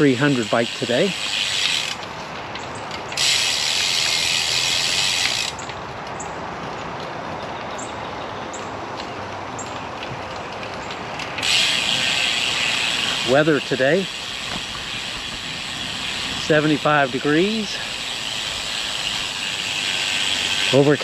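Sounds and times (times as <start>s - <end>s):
bike freehub ticking: 0.0s - 7.0s, 9.6s - 21.0s
riding noise rush: 0.0s - 21.0s.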